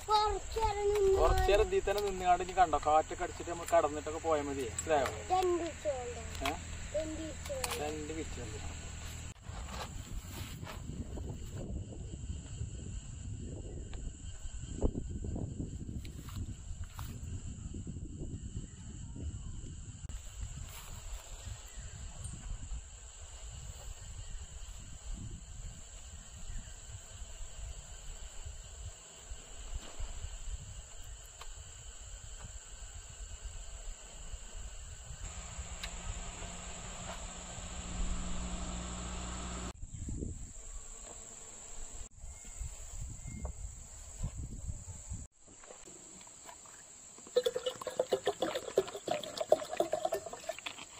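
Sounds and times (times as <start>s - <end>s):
crickets and insects chirring: 0.0s - 50.9s.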